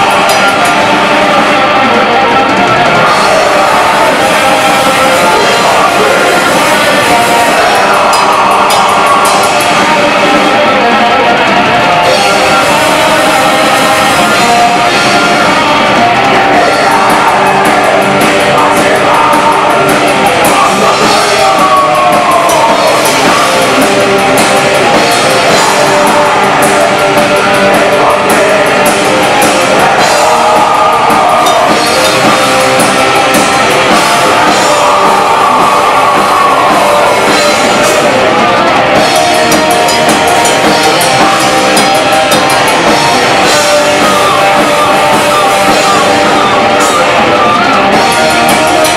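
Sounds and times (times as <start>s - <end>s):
distorted electric guitars: 0.0s - 48.9s
metal band playing live: 0.0s - 48.9s
pounding drum kit: 0.0s - 48.9s.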